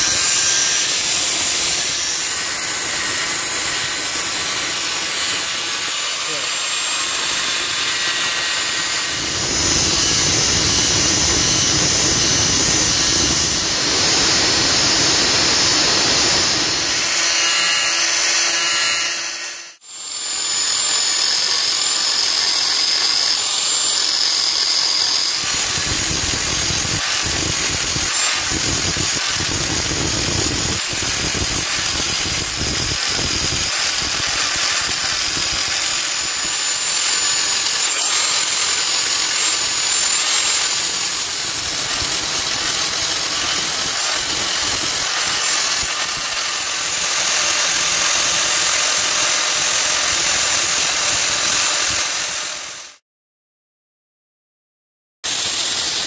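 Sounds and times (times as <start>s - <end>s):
angle grinder cutting steel: 0.0s - 53.0s, 55.2s - 56.0s.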